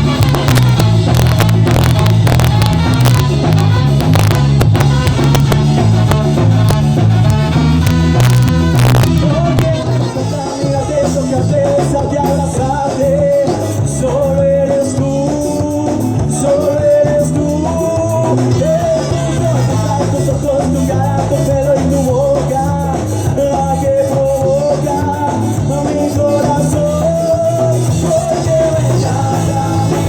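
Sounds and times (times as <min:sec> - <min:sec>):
ska band playing live: 0:00.0 - 0:30.0.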